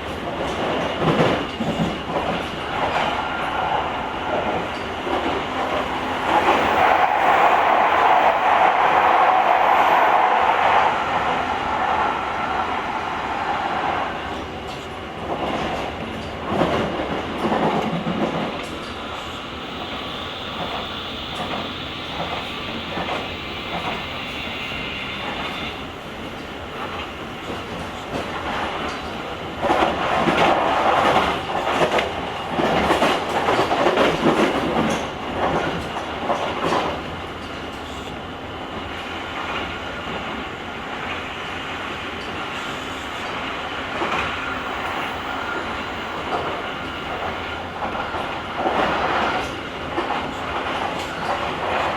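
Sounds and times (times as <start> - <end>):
electric train running rumble: 0.0 - 51.9.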